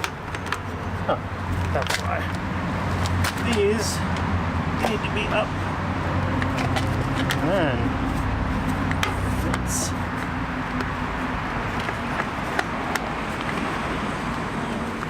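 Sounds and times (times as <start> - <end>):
rushing background noise: 0.0 - 15.0.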